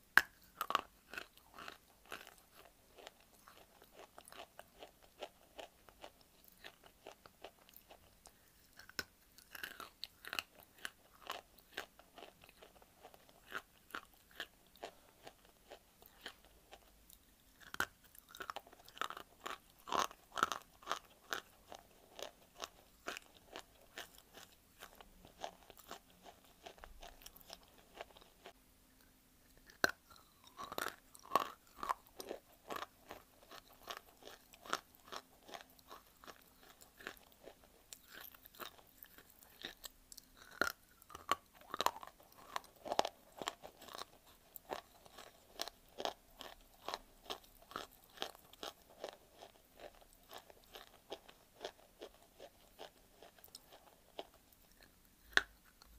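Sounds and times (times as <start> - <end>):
crunching and chewing clay: 0.1 - 55.9.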